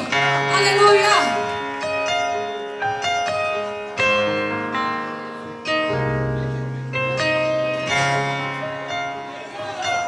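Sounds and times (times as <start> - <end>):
keyboard chords: 0.0 - 10.0.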